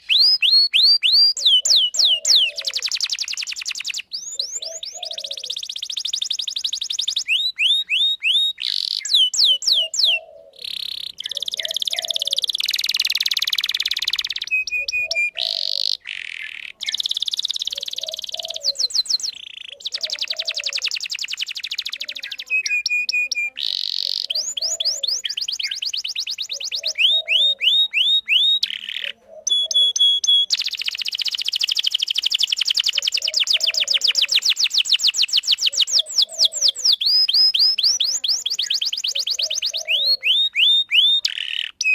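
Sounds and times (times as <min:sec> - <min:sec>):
canary singing: 0:00.0 - 0:41.9.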